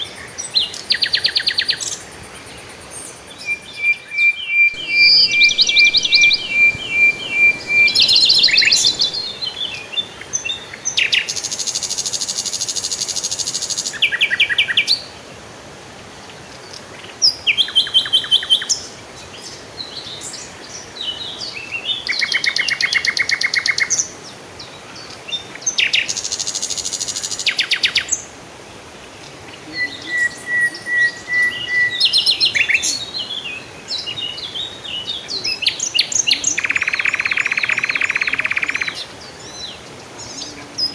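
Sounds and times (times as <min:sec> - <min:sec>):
songbirds singing and calling: 0:00.0 - 0:15.2, 0:16.3 - 0:40.9.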